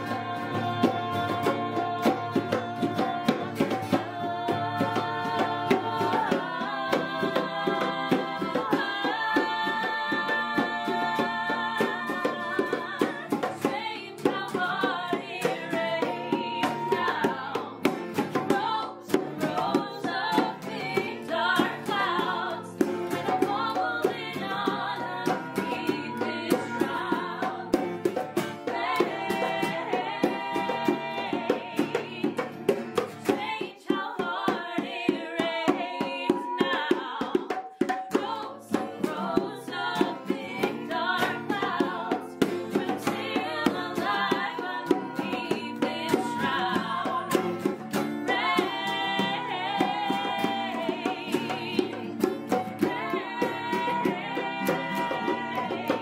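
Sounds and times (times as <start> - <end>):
acoustic guitars strummed: 0.0 - 56.0
bongos: 0.0 - 56.0
women singing: 0.0 - 56.0.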